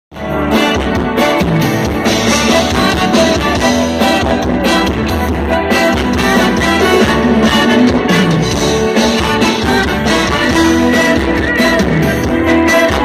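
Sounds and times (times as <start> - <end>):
live band music through speakers: 0.1 - 13.0.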